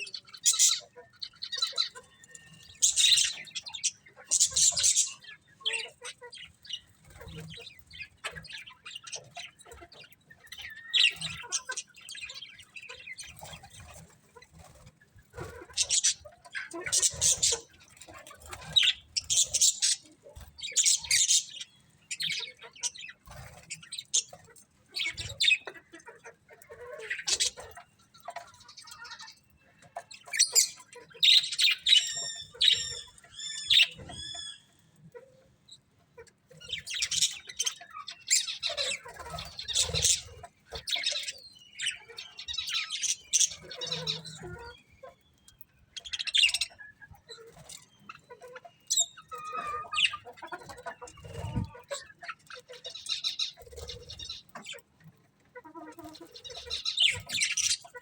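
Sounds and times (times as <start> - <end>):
budgerigars chirping: 0.0 - 34.9, 36.6 - 54.9, 55.6 - 58.0.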